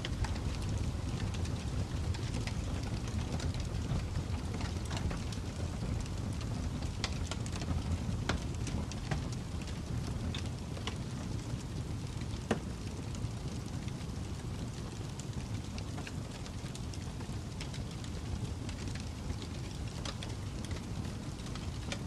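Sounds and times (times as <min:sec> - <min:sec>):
fire crackling: 0:00.0 - 0:22.0
pops and snaps of fire: 0:00.0 - 0:22.0.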